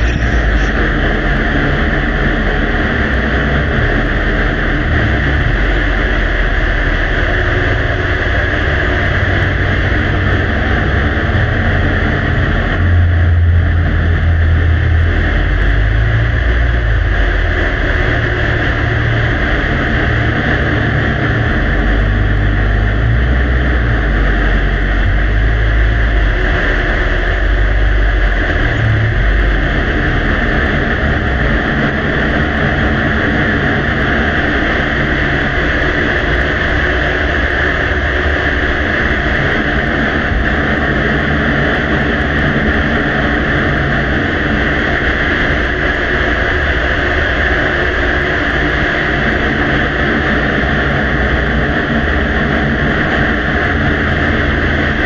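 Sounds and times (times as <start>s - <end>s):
low rumble: 0.0s - 55.0s.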